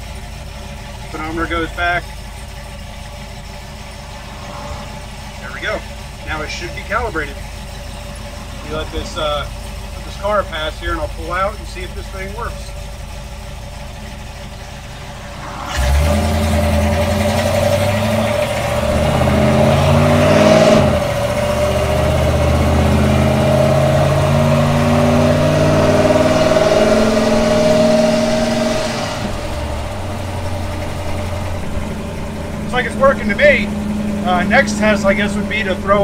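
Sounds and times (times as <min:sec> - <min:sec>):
transmission shifting: 0:00.0 - 0:36.0
truck engine accelerating: 0:00.0 - 0:36.0.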